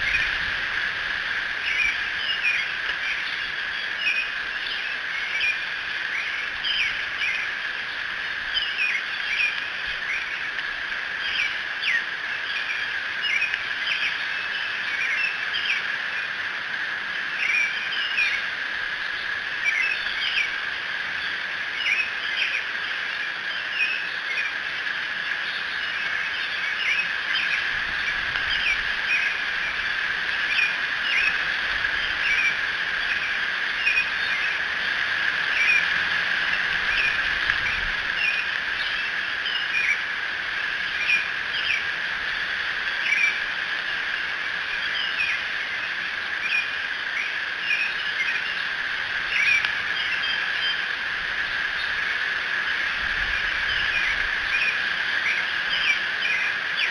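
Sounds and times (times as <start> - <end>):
insect trill: 0.0 - 56.9
small birds chirping: 0.0 - 56.9.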